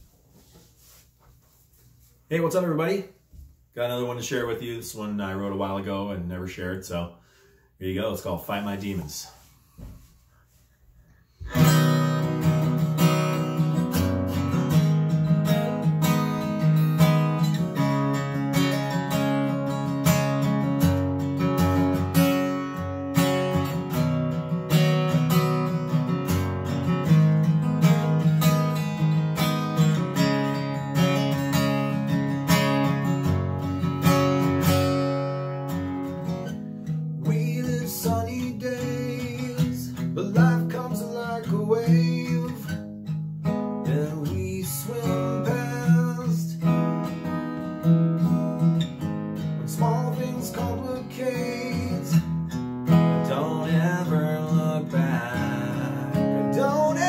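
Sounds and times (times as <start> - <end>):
acoustic guitar strumming: 11.3 - 57.0.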